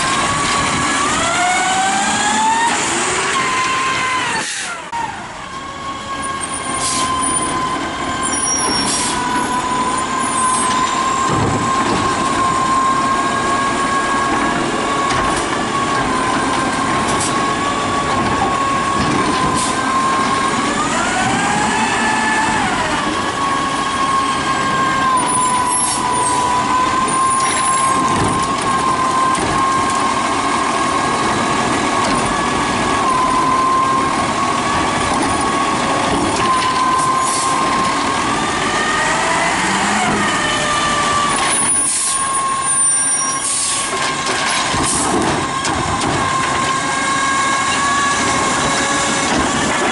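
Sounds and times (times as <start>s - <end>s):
garbage truck engine whining: 0.0s - 49.9s.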